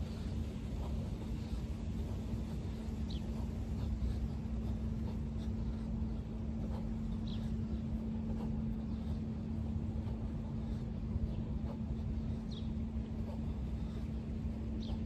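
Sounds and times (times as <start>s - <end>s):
constant low noise: 0.0s - 15.0s
steady low hum: 0.0s - 15.0s.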